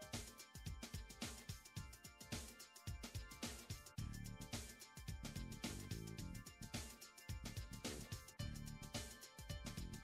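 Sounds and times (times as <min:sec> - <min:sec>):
background music with drums and bass: 0:00.0 - 0:10.0.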